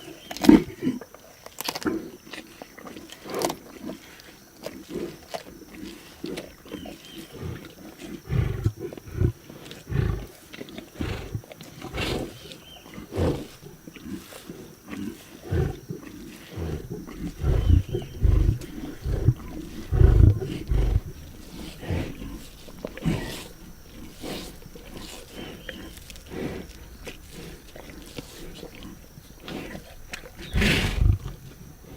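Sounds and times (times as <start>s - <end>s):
lions growling: 5.8s - 31.9s.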